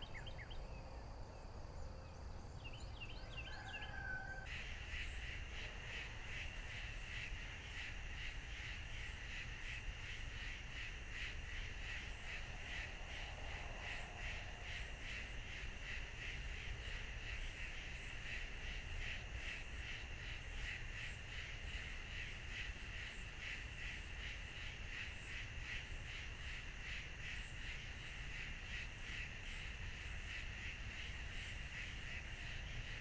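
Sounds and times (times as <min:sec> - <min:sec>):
rhythmic insect chorus: 0:00.0 - 0:33.0.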